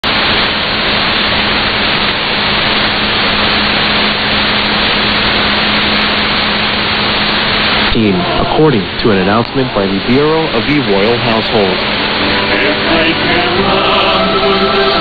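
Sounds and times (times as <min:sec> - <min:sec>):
shortwave radio static hiss: 0:00.0 - 0:15.0.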